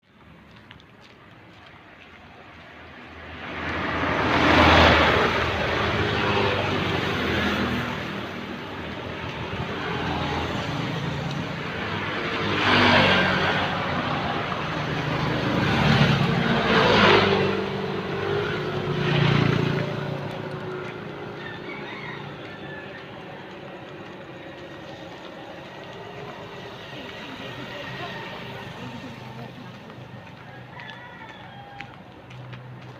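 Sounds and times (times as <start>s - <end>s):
vehicles passing: 0.0s - 32.9s
engine hum: 0.1s - 30.8s.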